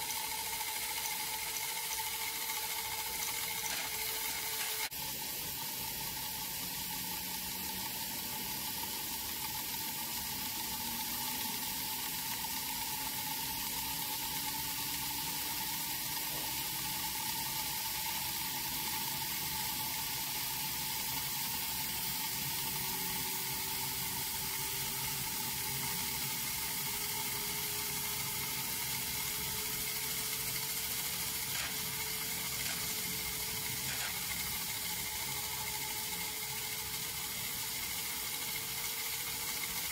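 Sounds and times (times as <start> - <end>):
steam hissing and sizzling: 0.0 - 39.9
turbine wheel whine rising: 0.0 - 39.9.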